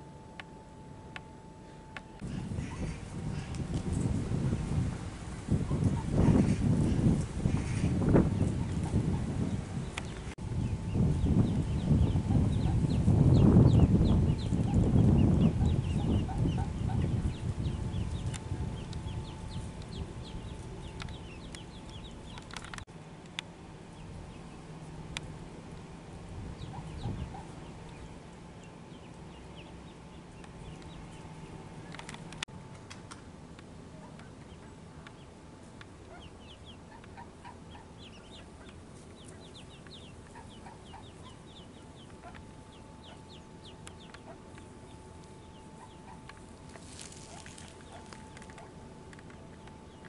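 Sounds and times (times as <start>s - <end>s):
ducklings peeping: 1.6s - 4.8s, 5.5s - 22.8s, 26.0s - 32.4s, 33.9s - 50.0s.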